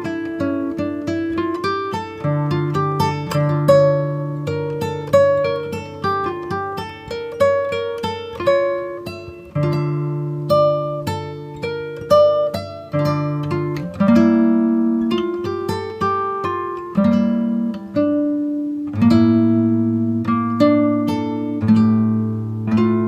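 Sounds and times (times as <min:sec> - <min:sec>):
acoustic guitar melody: 0:00.0 - 0:23.0.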